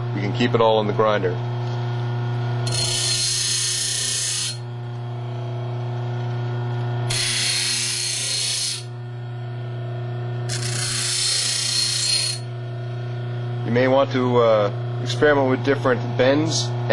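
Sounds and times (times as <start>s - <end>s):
bench grinder motor hum: 0.0s - 16.9s.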